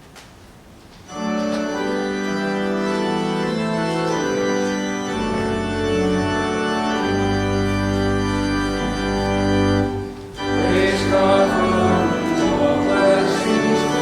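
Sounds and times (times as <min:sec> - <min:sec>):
church organ chords: 0:01.1 - 0:14.0
organ pedal bass notes: 0:01.1 - 0:14.0.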